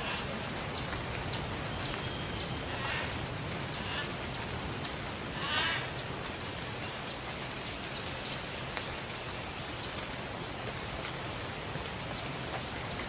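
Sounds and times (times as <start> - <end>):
ambient hiss: 0.0 - 13.0.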